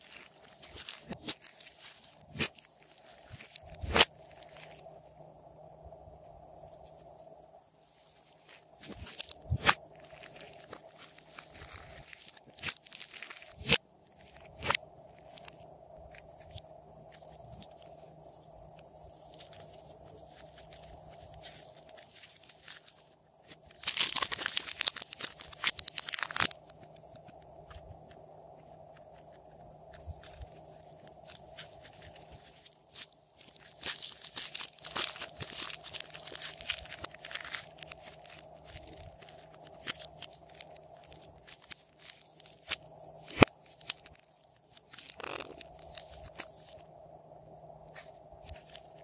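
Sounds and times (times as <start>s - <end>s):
slime crackling and tearing: 0.0s - 4.8s, 8.0s - 15.6s, 16.4s - 27.8s, 29.1s - 46.8s.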